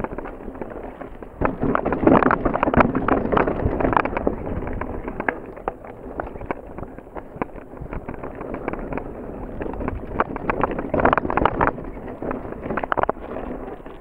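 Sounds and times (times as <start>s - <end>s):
bike frame and chain clattering: 0.0s - 14.0s
tyres crunching over dirt and stones: 0.0s - 14.0s.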